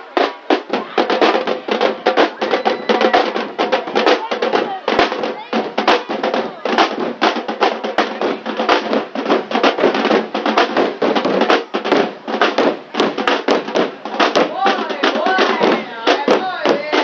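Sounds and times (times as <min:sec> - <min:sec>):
drummers beating barrel drums: 0:00.0 - 0:17.0.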